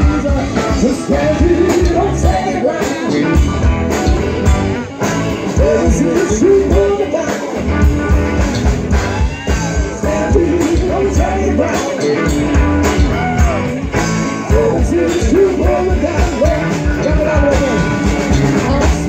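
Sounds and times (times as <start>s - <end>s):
drum kit beat: 0.0s - 19.0s
electric guitars: 0.0s - 19.0s.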